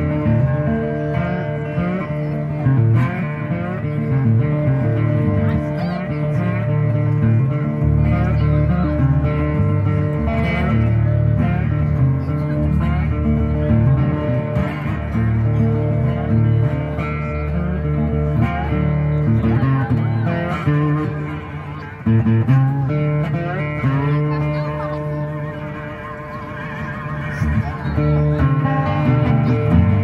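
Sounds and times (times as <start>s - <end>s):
amplified resonator guitar plucking: 0.0s - 30.0s.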